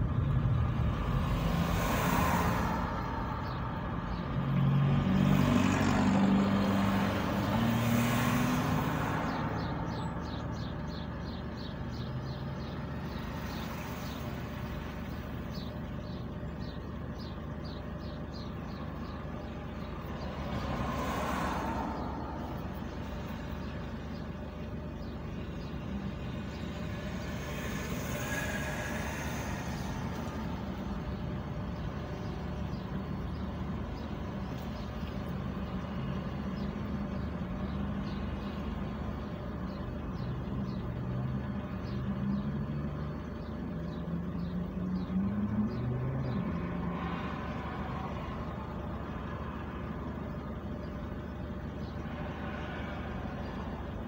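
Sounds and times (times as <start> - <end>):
cars idling and passing: 0.0 - 54.0.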